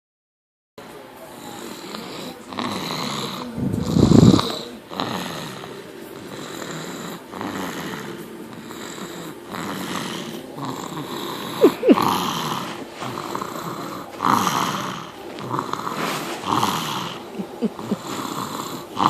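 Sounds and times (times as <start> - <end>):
baby snoring: 1.3 - 19.0.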